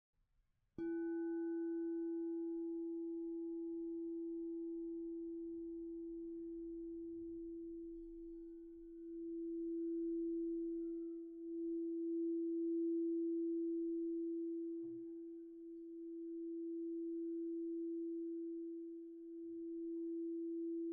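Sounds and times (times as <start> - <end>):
singing bowl ringing: 0.8 - 20.9.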